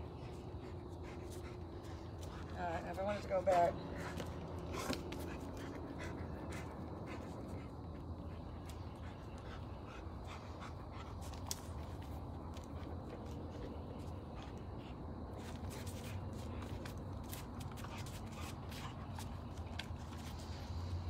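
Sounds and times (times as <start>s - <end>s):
dog panting: 0.0s - 21.0s
steady low hum: 0.0s - 21.0s.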